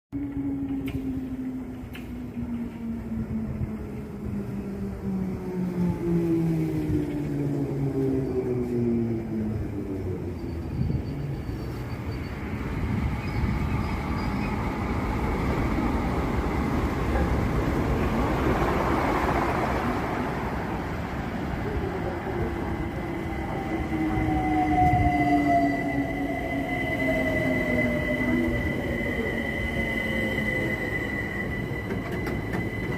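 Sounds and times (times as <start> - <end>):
train rail rumble: 0.2 - 32.9
train slowing whine: 0.2 - 32.9.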